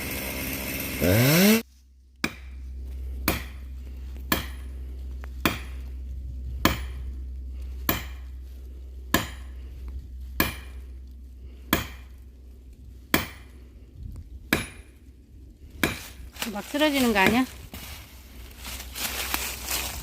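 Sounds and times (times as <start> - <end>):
low steady hum: 1.6 - 20.0.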